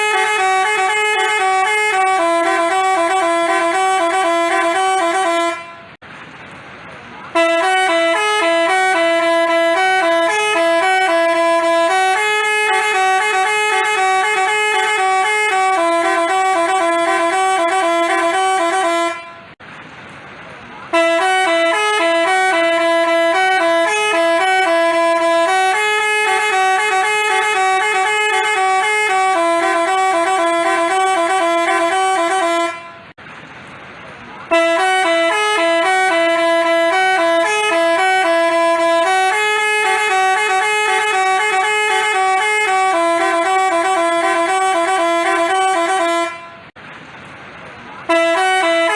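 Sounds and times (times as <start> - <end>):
multi-tone bus horn melody: 0.0 - 6.0, 7.3 - 19.6, 20.9 - 33.2, 34.4 - 46.8, 48.0 - 48.9.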